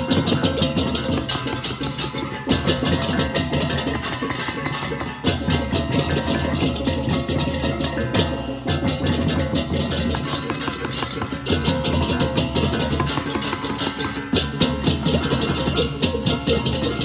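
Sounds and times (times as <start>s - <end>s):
drums: 0.0s - 17.0s.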